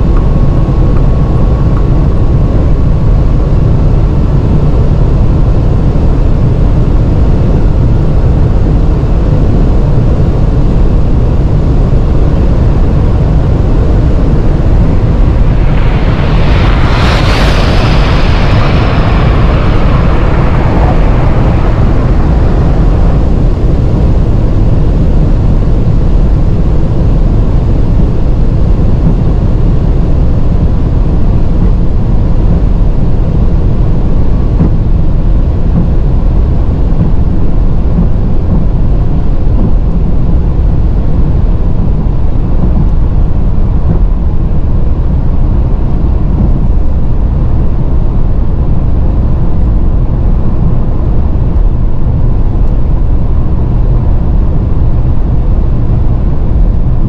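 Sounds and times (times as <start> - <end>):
car engine roar: 0.0 - 57.0
wind and road noise in car: 0.0 - 57.0.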